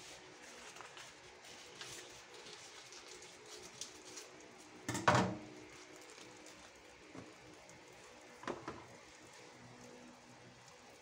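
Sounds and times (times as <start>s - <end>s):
butter frying faintly: 0.0s - 11.0s.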